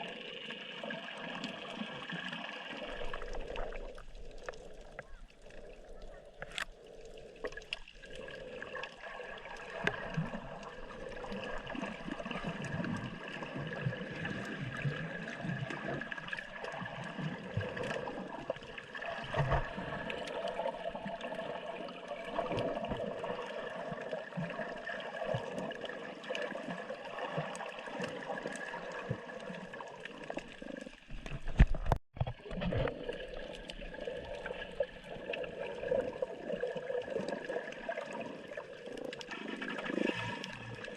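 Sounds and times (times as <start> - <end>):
water gurgling and sloshing: 0.0 - 40.9.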